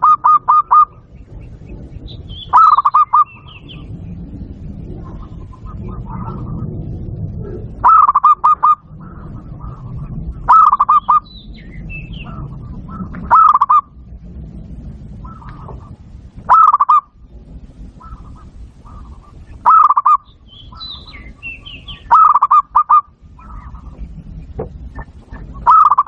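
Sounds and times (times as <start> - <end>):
dove rolling coo notes: 0.0 - 26.0.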